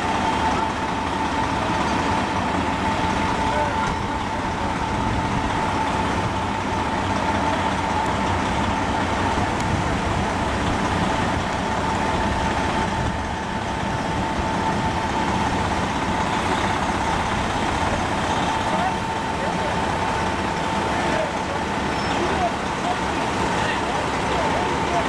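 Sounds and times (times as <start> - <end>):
constant whine: 0.0 - 25.0
truck diesel engine idling: 0.0 - 25.0.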